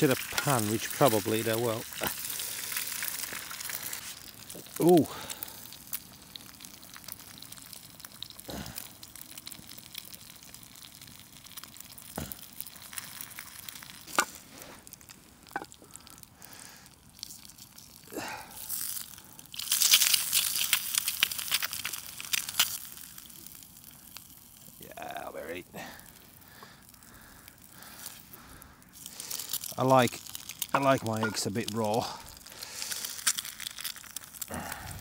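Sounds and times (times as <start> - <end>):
food sizzling in a pan: 0.0 - 15.2, 16.6 - 25.9, 29.0 - 34.7
spitting crackling sizzle: 0.0 - 35.0.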